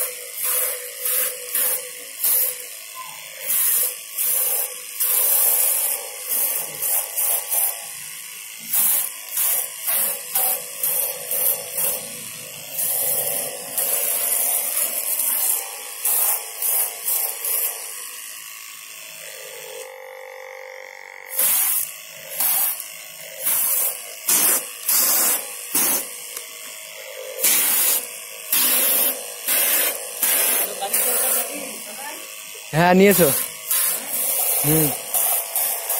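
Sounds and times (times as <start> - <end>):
pressure washer spray hissing: 0.0 - 7.8, 8.6 - 17.8, 21.3 - 22.8, 23.4 - 26.1, 27.4 - 35.9
electric pump motor hum: 0.0 - 35.9.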